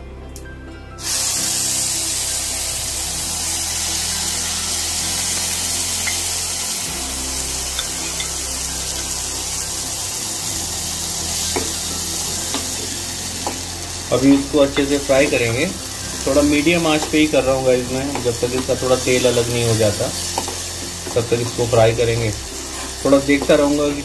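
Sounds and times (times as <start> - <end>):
paste hissing in hot oil: 1.0 - 24.0.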